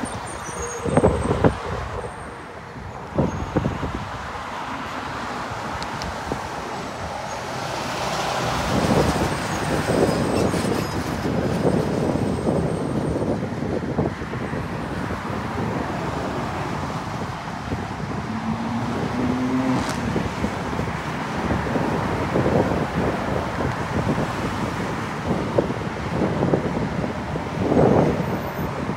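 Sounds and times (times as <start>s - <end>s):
road traffic noise: 0.0s - 28.9s.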